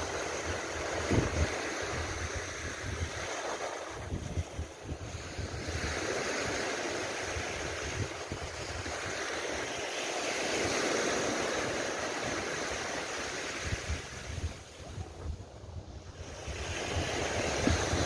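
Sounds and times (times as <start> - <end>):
surf breaking on beach: 0.0 - 15.4, 16.2 - 18.0
wind rumble on microphone: 0.0 - 18.0.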